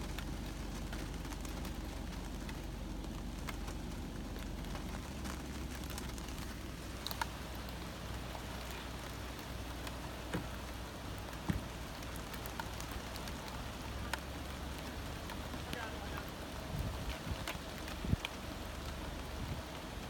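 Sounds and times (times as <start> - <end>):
low steady rumble: 0.0 - 20.0
rain pattering on a car: 0.0 - 20.0.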